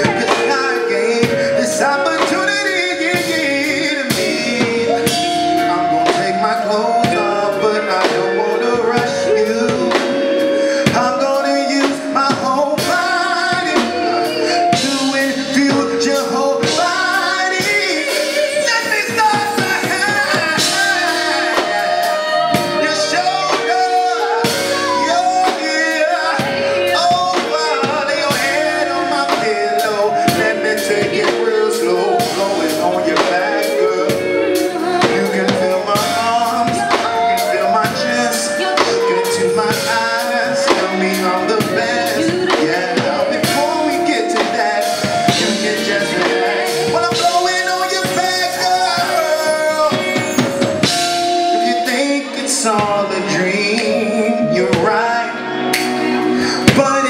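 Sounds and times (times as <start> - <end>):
man and woman singing: 0.0 - 57.0
soul band playing: 0.0 - 57.0.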